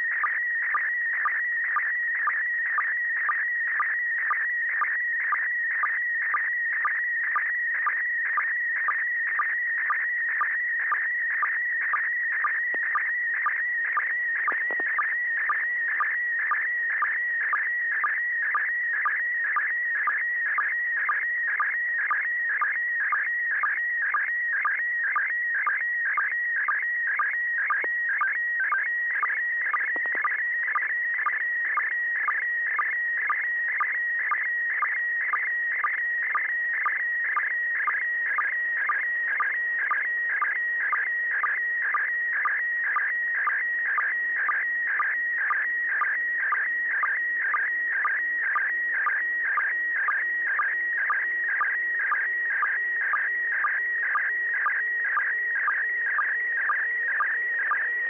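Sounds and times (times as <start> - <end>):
high wavering radio tone: 0.0 - 58.0.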